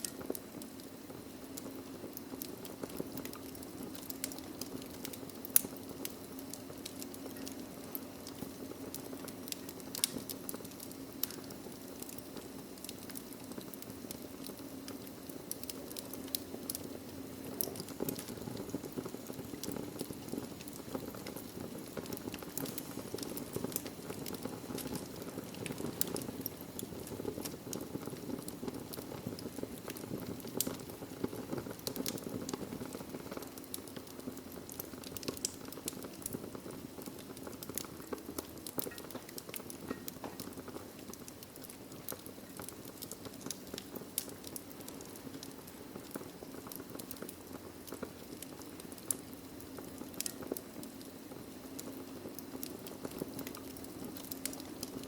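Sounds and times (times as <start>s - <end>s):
burning logs crackling: 0.0s - 55.0s.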